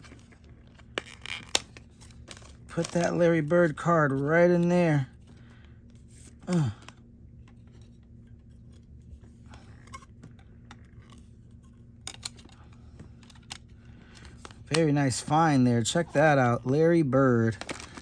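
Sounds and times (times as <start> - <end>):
card rustling: 0.0 - 18.0
faint low hum: 0.0 - 18.0.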